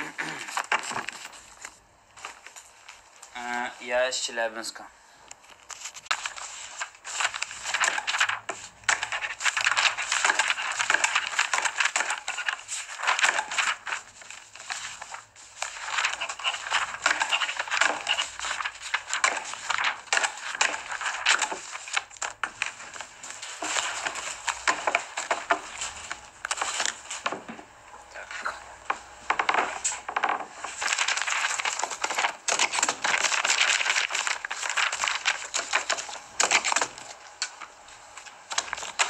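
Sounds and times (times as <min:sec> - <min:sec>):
paper crumpling and rustling: 0:00.0 - 0:03.3, 0:05.3 - 0:39.0.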